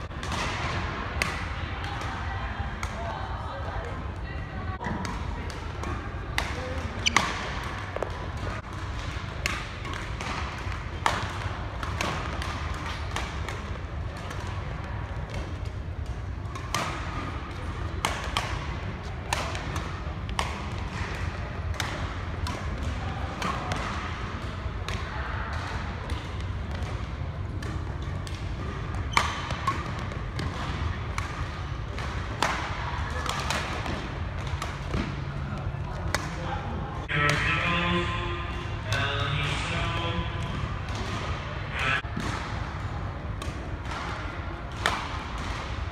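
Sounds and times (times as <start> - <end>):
rackets hitting shuttlecock: 0.1 - 3.1, 4.8 - 36.4, 37.0 - 45.9.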